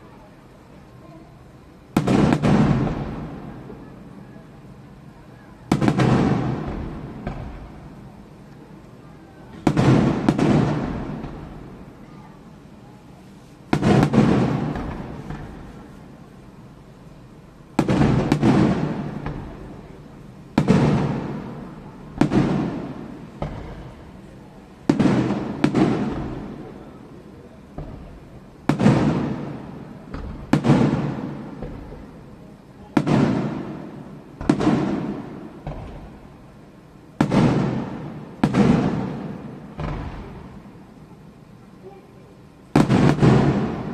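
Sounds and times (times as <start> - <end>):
firework shells bursting: 1.9 - 3.4, 5.7 - 12.0, 13.6 - 32.2, 33.0 - 41.3, 42.7 - 43.9.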